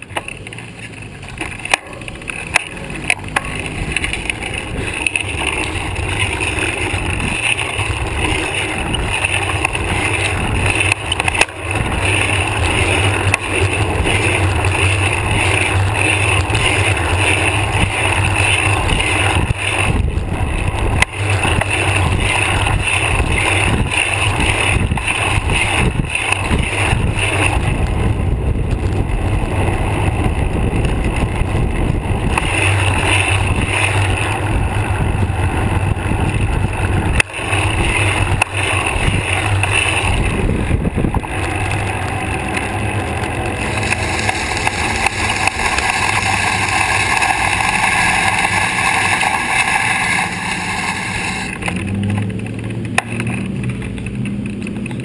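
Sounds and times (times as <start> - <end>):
bicycle road rumble: 0.0 - 55.0.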